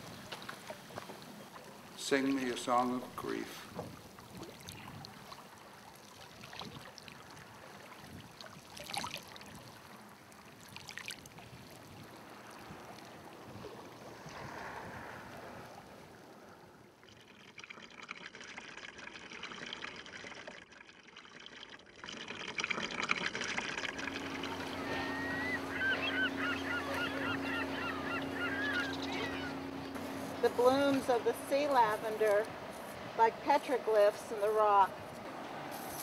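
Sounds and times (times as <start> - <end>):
water trickling and lapping: 0.0 - 36.0.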